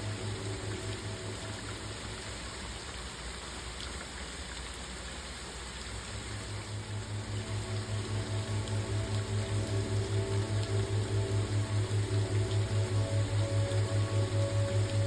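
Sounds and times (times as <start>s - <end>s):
soft pulsing music: 0.0s - 3.4s, 6.2s - 15.0s
rain hissing: 0.0s - 4.1s, 5.0s - 15.0s.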